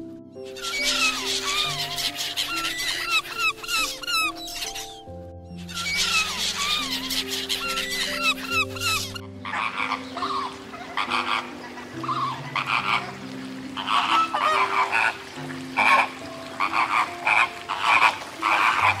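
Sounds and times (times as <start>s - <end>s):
soft background music: 0.0s - 19.0s
flamingo honking: 0.5s - 5.0s, 5.6s - 13.2s, 13.8s - 19.0s.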